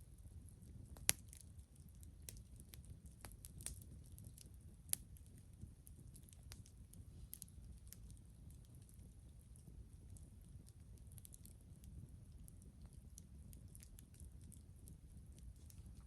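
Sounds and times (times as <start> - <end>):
campfire crackling: 0.1 - 16.0.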